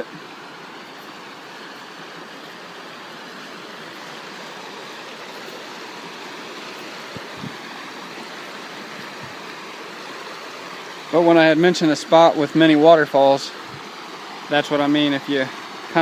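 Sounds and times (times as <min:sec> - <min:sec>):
creek water rushing over rocks: 0:00.0 - 0:16.0.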